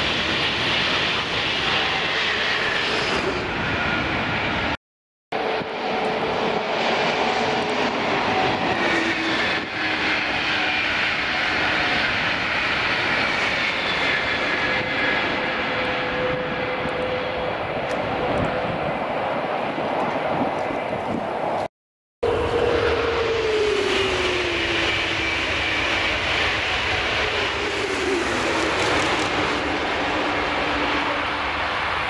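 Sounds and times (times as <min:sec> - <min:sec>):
high-speed train passing: 0:00.0 - 0:32.0.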